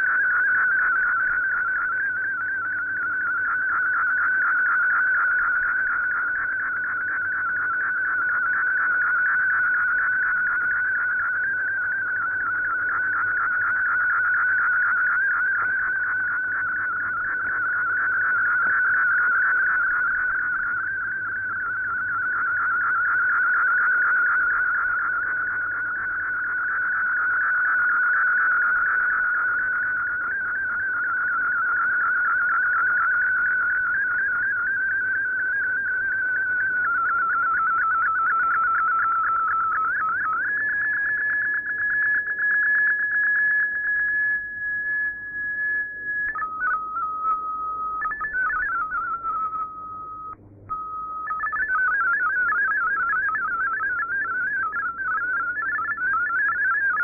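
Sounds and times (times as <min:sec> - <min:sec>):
steady held tone: 0:00.0 - 0:57.0
warbling data tones: 0:00.0 - 0:57.0.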